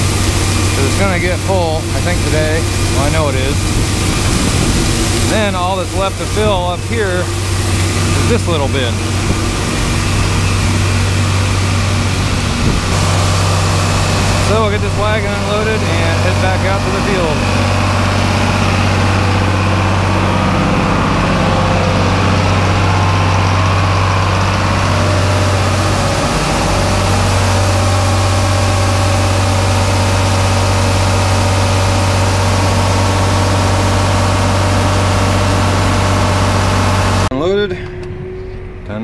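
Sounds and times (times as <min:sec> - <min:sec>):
corn pouring into hopper: 0:00.0 - 0:12.3, 0:12.9 - 0:37.3
grain auger running: 0:00.0 - 0:39.0
tractor engine running: 0:00.0 - 0:39.0.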